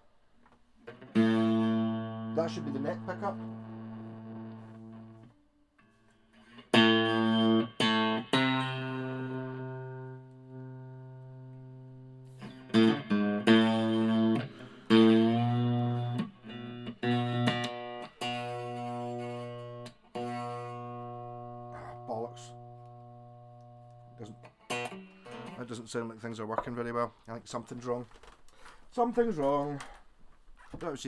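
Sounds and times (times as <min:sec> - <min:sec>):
electric guitar chords strummed: 0:00.8 - 0:25.8.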